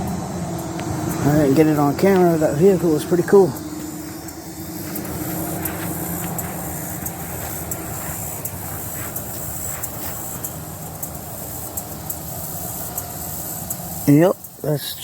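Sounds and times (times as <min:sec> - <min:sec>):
light irregular ticks: 0:00.0 - 0:15.0
steady mechanical hum: 0:00.0 - 0:15.0.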